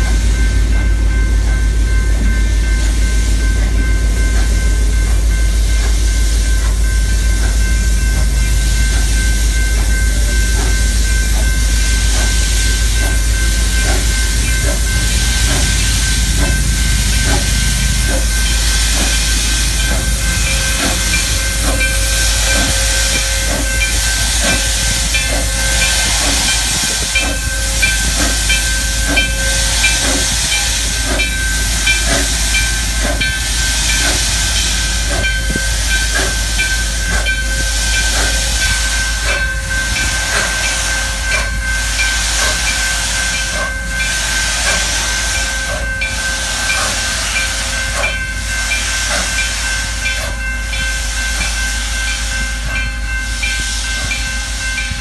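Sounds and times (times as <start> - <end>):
steam hissing: 0.0 - 55.0
steady high tone: 0.4 - 55.0.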